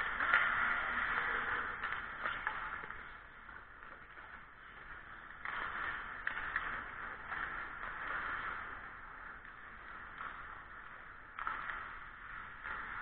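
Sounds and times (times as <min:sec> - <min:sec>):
ice skate blades scraping ice: 0:00.0 - 0:13.0
sharp clacks: 0:00.0 - 0:13.0.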